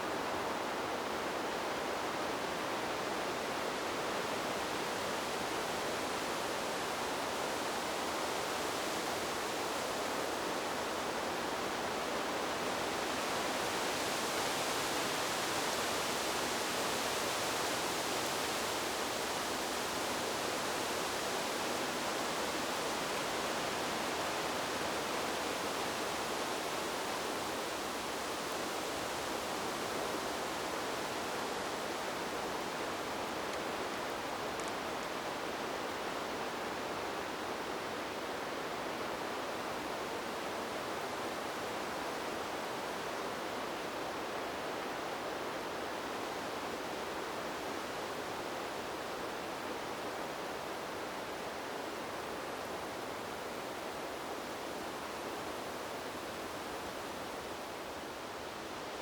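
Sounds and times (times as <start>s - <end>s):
wind blowing through trees: 0.0s - 59.0s.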